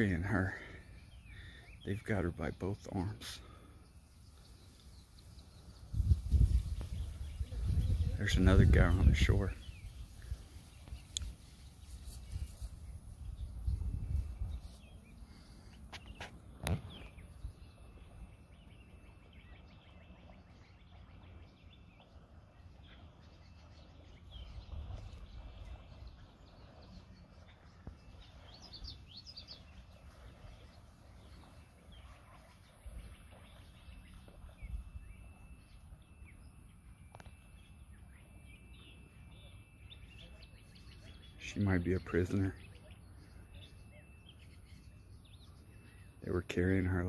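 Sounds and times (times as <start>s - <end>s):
low uneven rumble: 0.0s - 46.1s
birds chirping: 0.0s - 47.0s.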